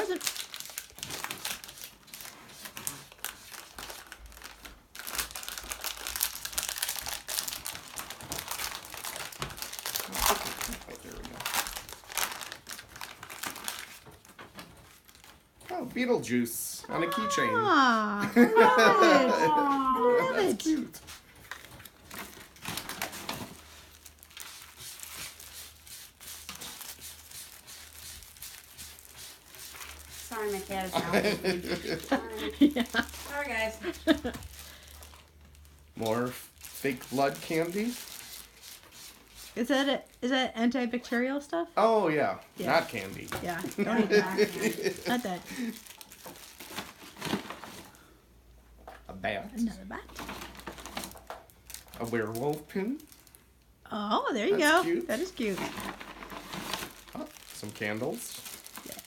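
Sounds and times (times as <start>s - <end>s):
packaging crinkling by hand: 0.0s - 15.7s, 19.0s - 40.2s, 42.6s - 48.1s, 50.0s - 53.8s, 54.5s - 59.0s.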